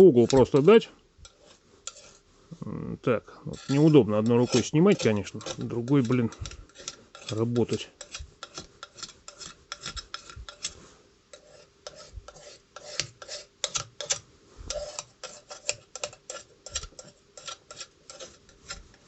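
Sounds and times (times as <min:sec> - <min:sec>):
knife blade scraping glass: 0:00.2 - 0:02.2, 0:03.5 - 0:18.9.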